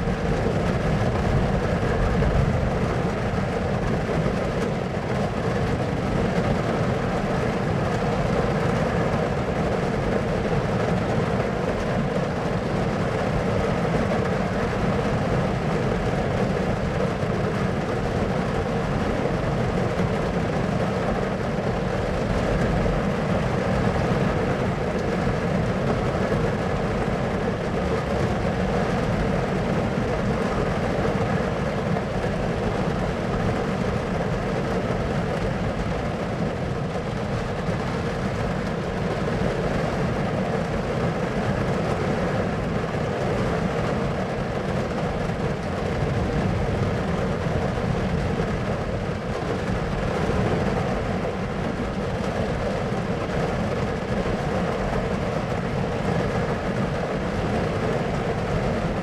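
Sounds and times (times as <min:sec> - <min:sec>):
low rumbling storm noise: 0:00.0 - 0:59.0.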